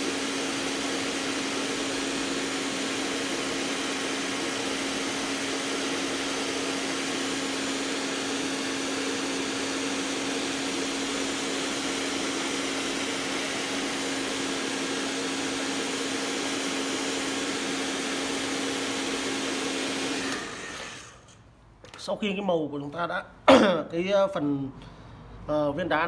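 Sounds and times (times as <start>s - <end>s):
hair dryer blowing: 0.0s - 21.4s.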